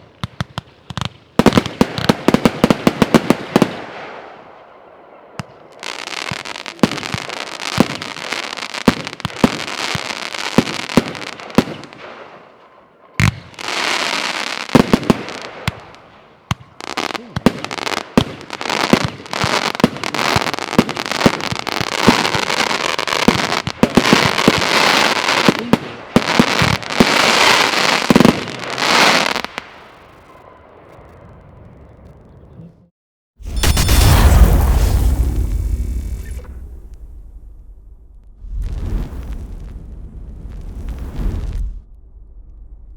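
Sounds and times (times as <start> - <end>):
fireworks crackling: 0.0 - 31.0, 33.5 - 42.0
fireworks shots and bursts: 0.0 - 31.0, 33.4 - 42.9.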